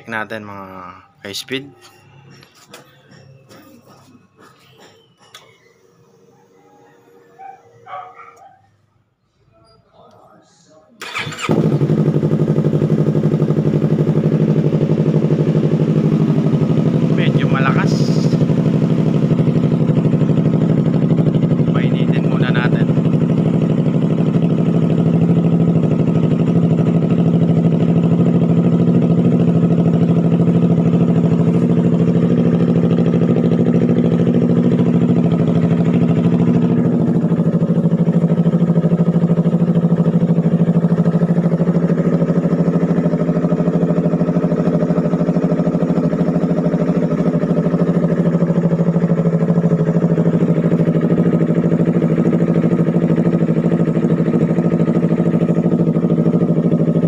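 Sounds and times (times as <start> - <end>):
motorcycle engine idling: 0.0 - 8.5, 11.0 - 57.0.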